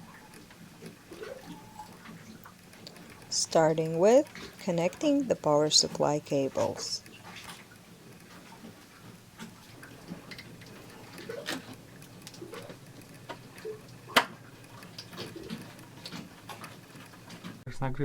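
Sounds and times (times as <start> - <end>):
clicks and knocks of hands working: 0.0 - 17.6.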